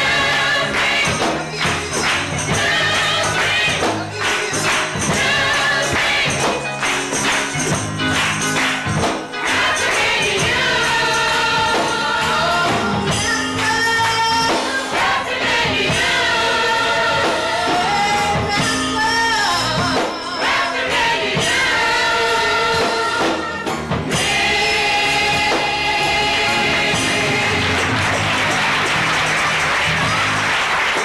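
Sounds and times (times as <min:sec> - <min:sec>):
gospel choir singing: 0:00.0 - 0:31.0.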